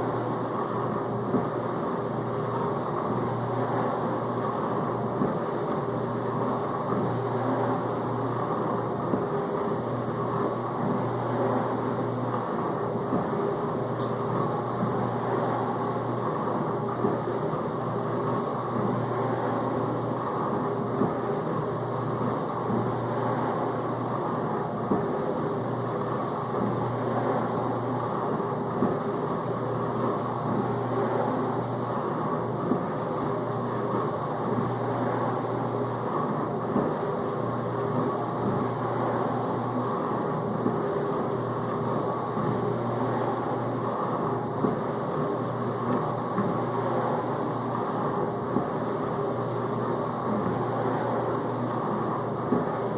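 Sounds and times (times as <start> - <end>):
dishwasher pump humming: 0.0 - 52.9.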